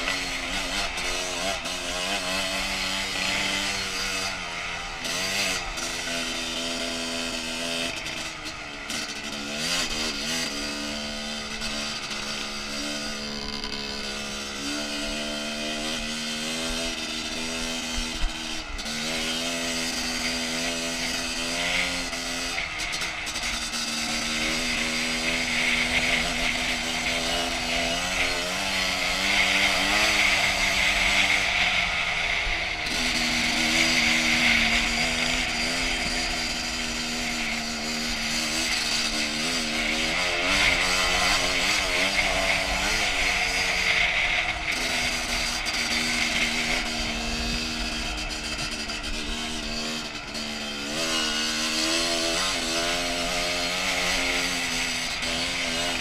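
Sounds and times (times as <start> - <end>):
two-stroke motorcycle engine running: 0.0 - 56.0.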